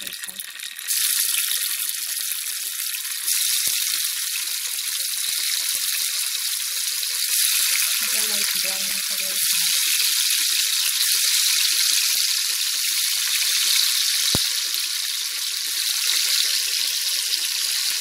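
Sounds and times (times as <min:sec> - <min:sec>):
tofu sizzling in hot oil: 0:00.0 - 0:18.0.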